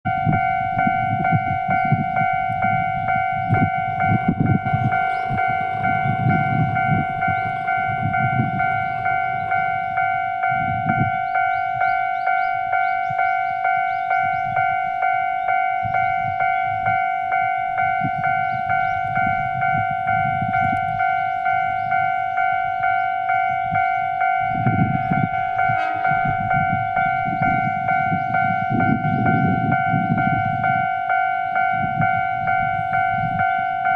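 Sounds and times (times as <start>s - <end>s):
railway crossing bell dinging: 0.0s - 33.9s
train rumbling over crossing: 0.0s - 33.9s.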